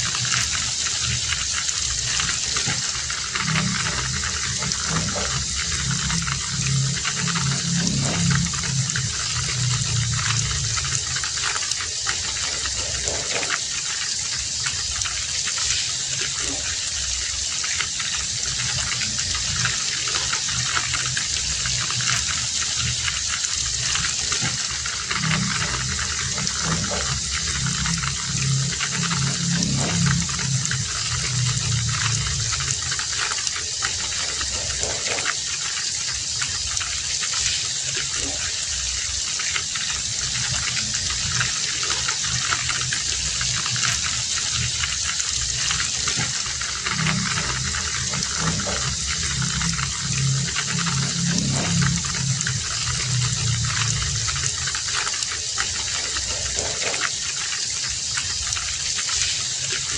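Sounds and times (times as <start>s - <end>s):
low pulsing sound: 0.0s - 35.5s, 37.9s - 57.2s
heavy rain: 0.0s - 59.9s.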